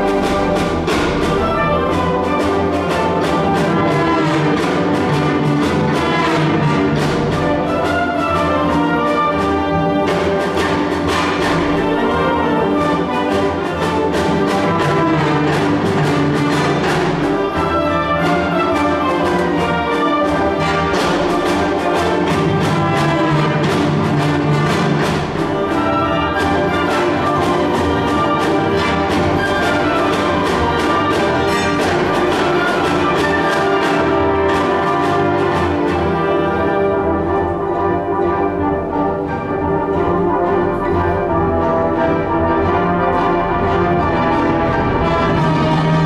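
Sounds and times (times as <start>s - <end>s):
orchestra brass: 0.0s - 46.0s
orchestra strings: 0.0s - 46.0s.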